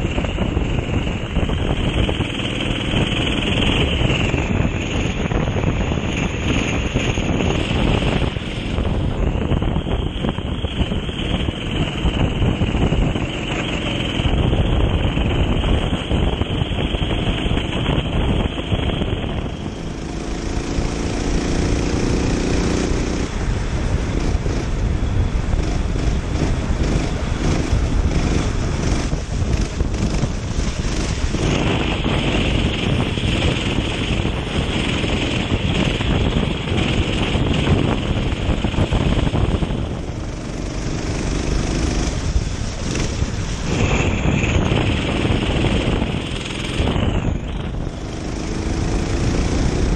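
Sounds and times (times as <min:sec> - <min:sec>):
kart engine running: 0:00.0 - 0:49.9
wind noise on microphone: 0:00.0 - 0:49.9.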